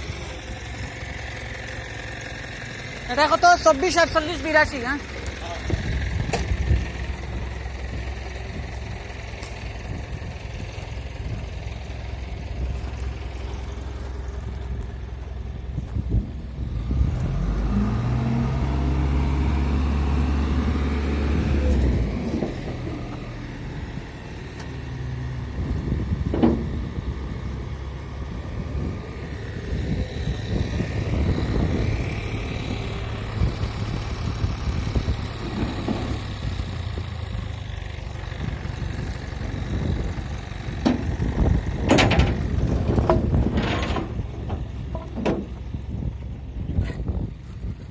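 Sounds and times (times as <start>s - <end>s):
truck engine idling and revving: 0.0s - 47.9s.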